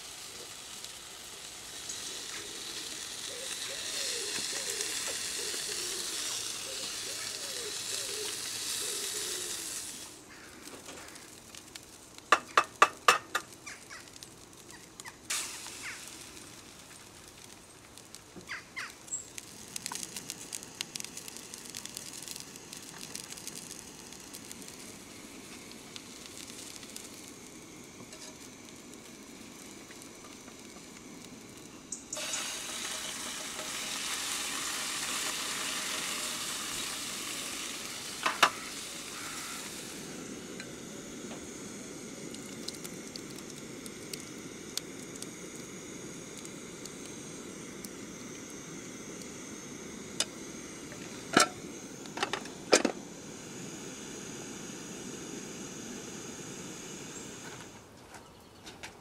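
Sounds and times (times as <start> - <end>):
food sizzling in a frying pan: 0.0 - 57.8.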